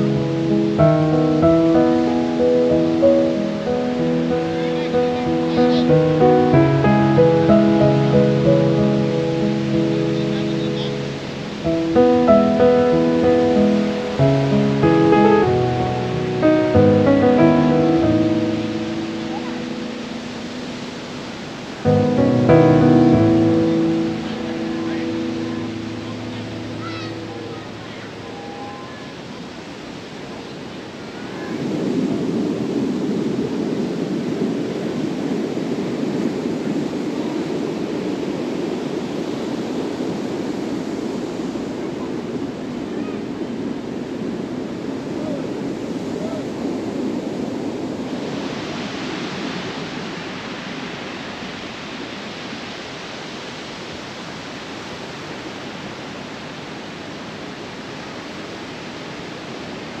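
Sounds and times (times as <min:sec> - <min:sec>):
sea surf on a beach: 0:00.0 - 1:00.0
wind: 0:00.0 - 1:00.0.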